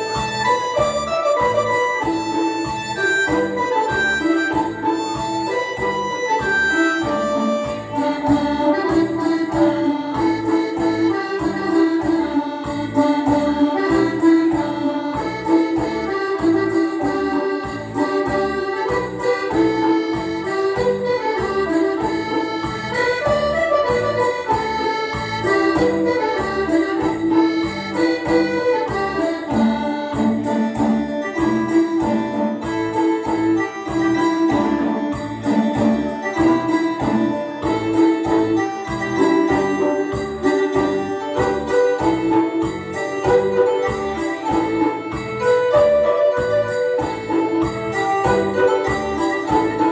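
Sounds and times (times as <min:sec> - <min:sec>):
reedy folk dance music: 0:00.0 - 0:49.9
small bells jingling: 0:00.2 - 0:49.9.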